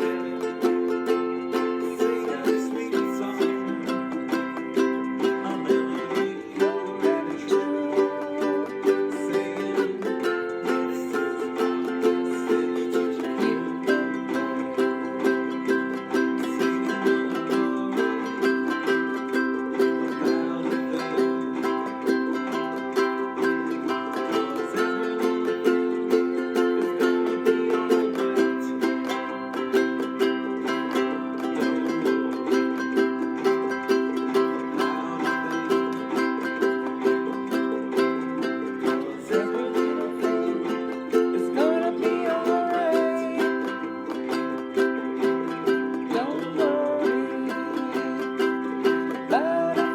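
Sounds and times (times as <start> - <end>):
ukulele strumming chords: 0.0 - 49.9.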